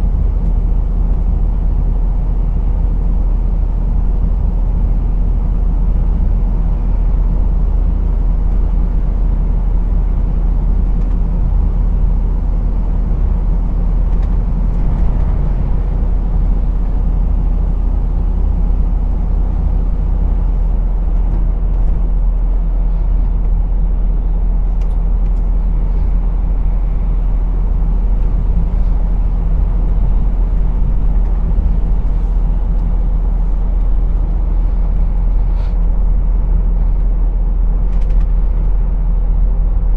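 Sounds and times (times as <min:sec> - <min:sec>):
lorry diesel engine drone: 0:00.0 - 0:39.9
road noise: 0:00.0 - 0:39.9.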